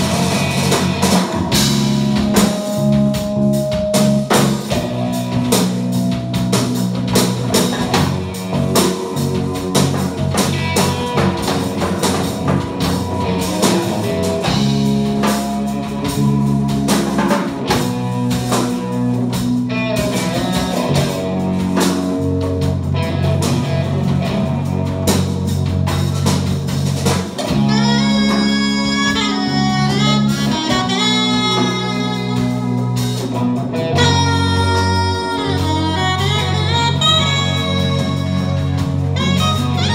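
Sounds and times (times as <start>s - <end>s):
lead melody: 0.0s - 39.9s
live blues-rock band playing: 0.0s - 39.9s.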